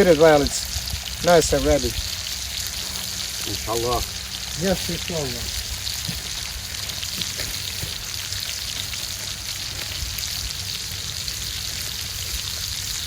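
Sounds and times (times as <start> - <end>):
burger patties sizzling: 0.0 - 13.0.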